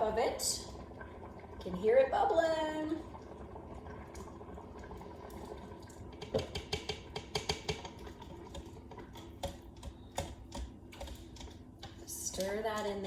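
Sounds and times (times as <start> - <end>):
soup bubbling: 0.0 - 13.0.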